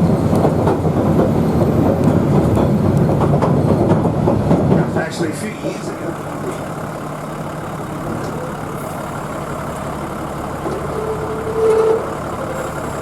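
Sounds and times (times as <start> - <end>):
diesel railcar engine running: 0.0 - 13.0.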